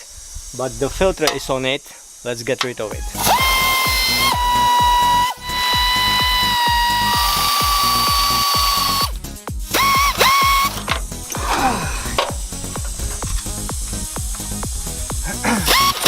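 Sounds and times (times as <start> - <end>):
background music with beat: 3.0 - 16.0
power tool motor whining: 3.1 - 16.0.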